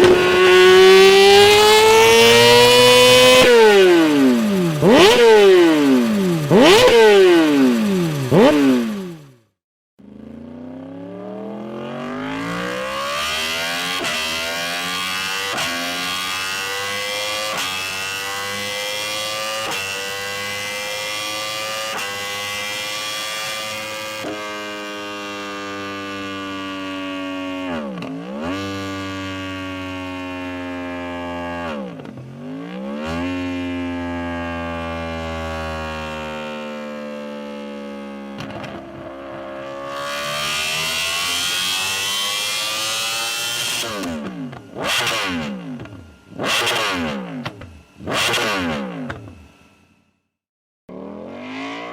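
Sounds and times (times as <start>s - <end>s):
motorcycle engine revving: 0.0s - 50.0s, 50.9s - 51.9s.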